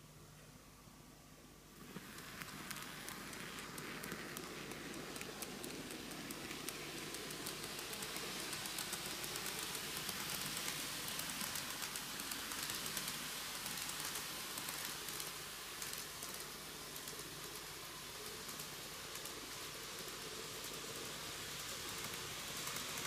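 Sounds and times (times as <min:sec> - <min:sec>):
model train wheels rattling: 0:01.8 - 0:23.0.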